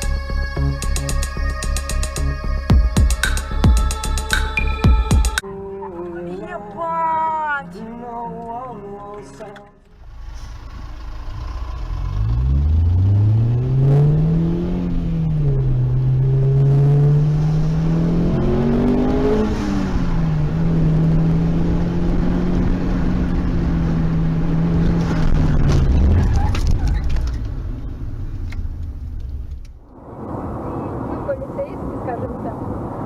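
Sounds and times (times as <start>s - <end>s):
car engine accelerating: 5.6s - 33.0s.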